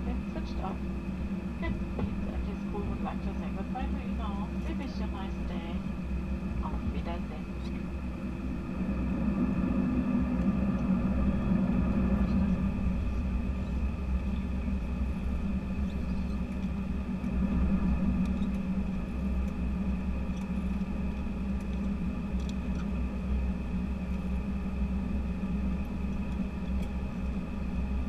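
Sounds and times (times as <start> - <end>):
airplane cabin rumble: 0.0 - 28.0
jet engine hum: 0.0 - 28.0.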